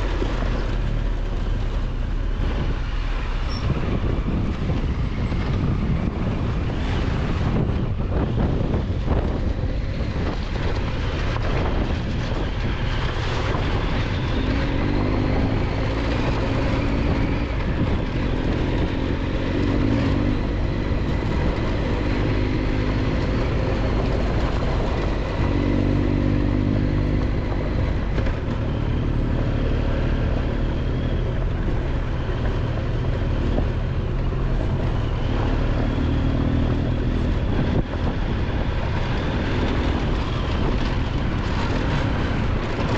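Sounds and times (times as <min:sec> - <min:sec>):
motorcycle engine pulling hard: 0:00.0 - 0:42.9.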